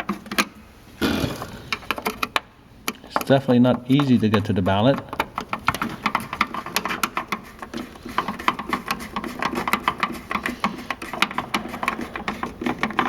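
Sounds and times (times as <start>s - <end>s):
hand tool clicking on screws: 1.7s - 13.0s.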